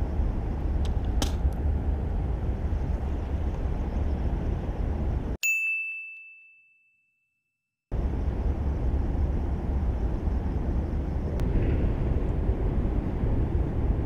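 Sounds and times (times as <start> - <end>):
wind rumble on microphone: 0.0 - 5.4, 7.9 - 14.0.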